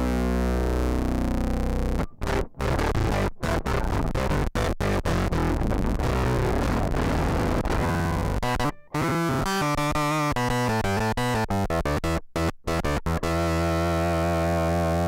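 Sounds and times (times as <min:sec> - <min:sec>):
electric guitar with synth effect: 0:00.0 - 0:15.0.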